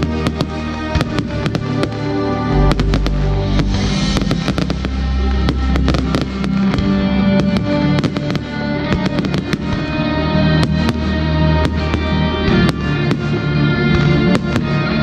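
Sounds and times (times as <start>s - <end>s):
fireworks bangs and crackles: 0.0s - 15.0s
music with low bass line: 0.0s - 15.0s.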